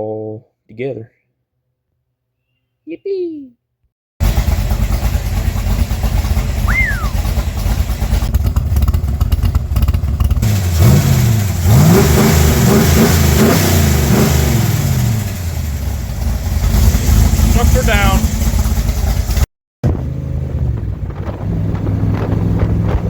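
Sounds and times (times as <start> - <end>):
car engine revving: 4.2 - 23.0.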